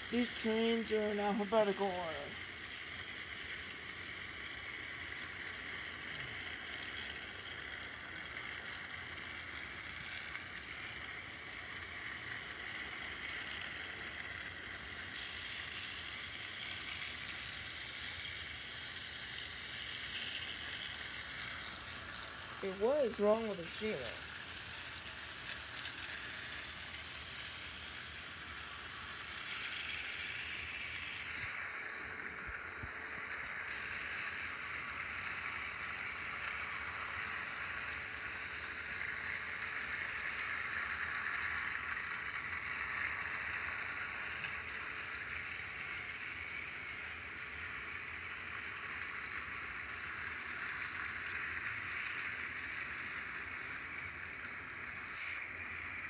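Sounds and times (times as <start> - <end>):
toy train motors whirring: 0.0 - 56.0.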